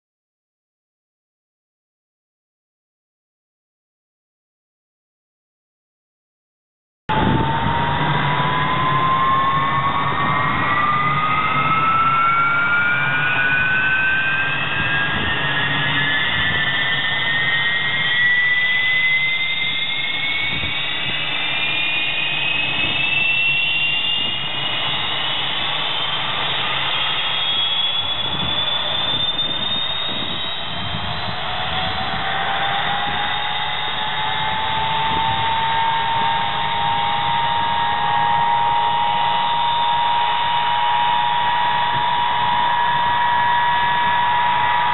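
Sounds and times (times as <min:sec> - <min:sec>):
jet engine whine spooling up: 0:07.1 - 0:44.9
second lower engine whine: 0:07.1 - 0:44.9.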